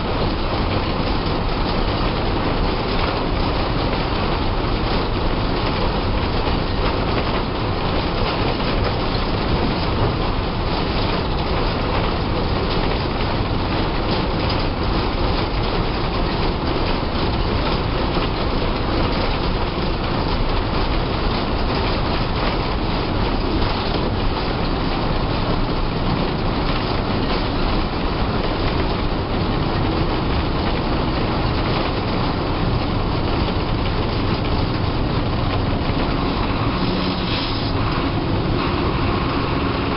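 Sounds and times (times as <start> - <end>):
bus engine drone: 0.0 - 39.9
road noise: 0.0 - 39.9.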